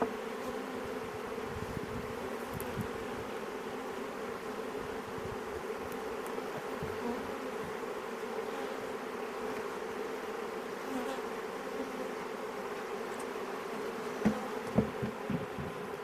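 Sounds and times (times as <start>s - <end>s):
bee swarm buzzing: 0.0s - 16.0s.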